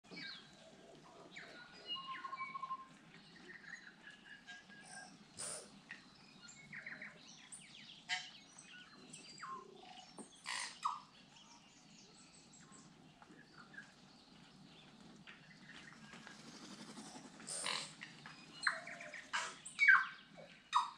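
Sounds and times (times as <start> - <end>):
birds calling and singing: 0.1 - 20.9.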